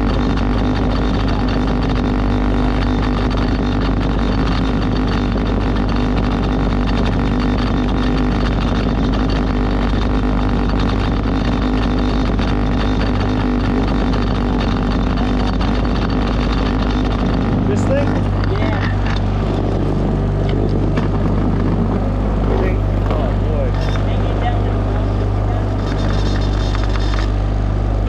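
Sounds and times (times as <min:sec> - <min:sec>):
motorboat engine droning: 0:00.0 - 0:28.0.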